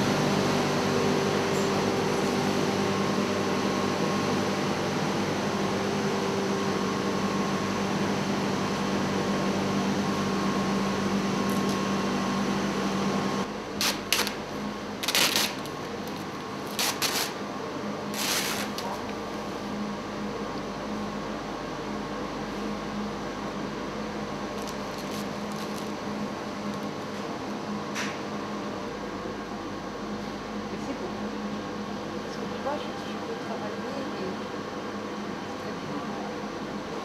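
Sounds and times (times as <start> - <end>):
machine hum with low drone: 0.0 - 37.0.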